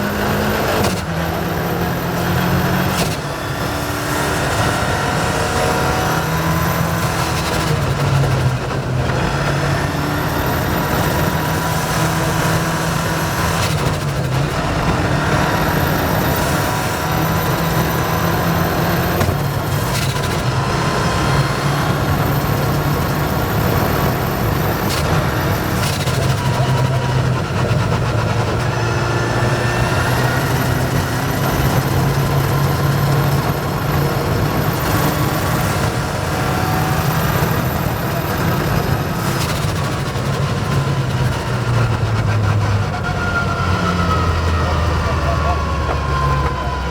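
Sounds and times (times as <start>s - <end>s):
rally car engine revving: 0.0s - 46.9s
road and tyre noise: 0.0s - 46.9s.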